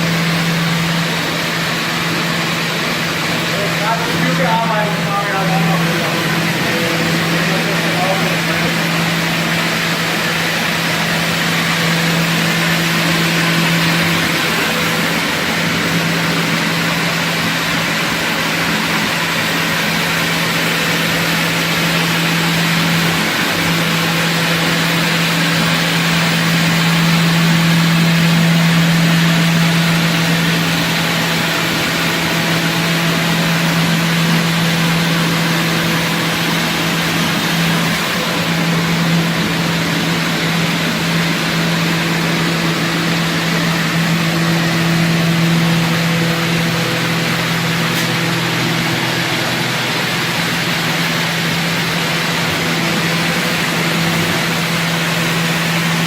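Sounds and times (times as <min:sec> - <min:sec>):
machining centre humming: 0:00.0 - 0:56.0.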